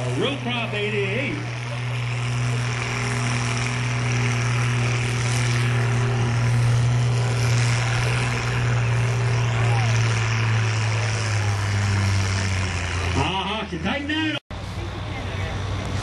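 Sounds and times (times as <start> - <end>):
tractor engine droning under load: 0.0 - 16.0.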